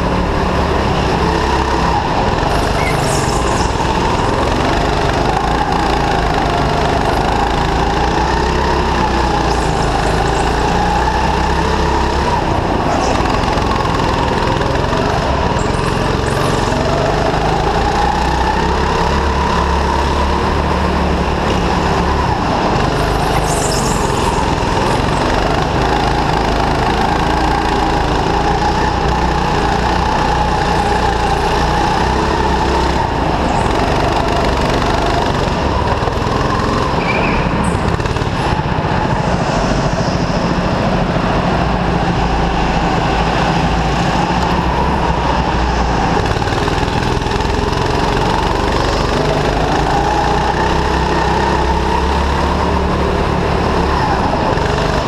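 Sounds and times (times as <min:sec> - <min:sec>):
go-kart engine running hard: 0:00.0 - 0:55.0
high-pitched tyre squeals: 0:00.6 - 0:55.0.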